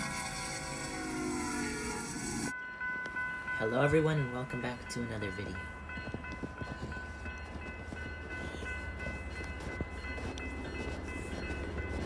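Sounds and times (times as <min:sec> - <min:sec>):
crossing warning bell ringing: 0:00.0 - 0:12.0
train rumbling: 0:00.0 - 0:12.0.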